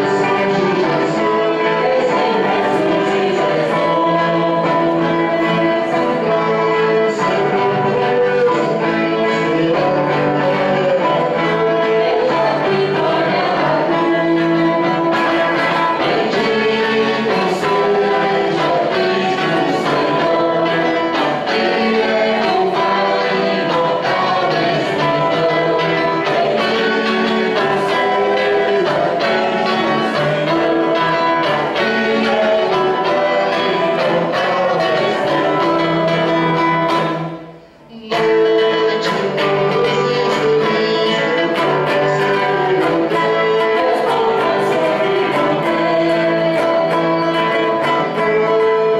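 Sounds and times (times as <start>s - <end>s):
guitar accompaniment: 0.0s - 48.9s
voices singing a hymn: 0.0s - 48.9s.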